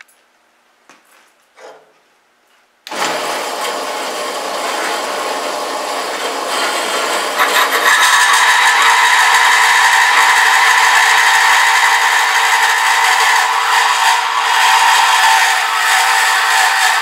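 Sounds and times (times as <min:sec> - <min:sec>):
bandsaw running: 0:02.9 - 0:17.0.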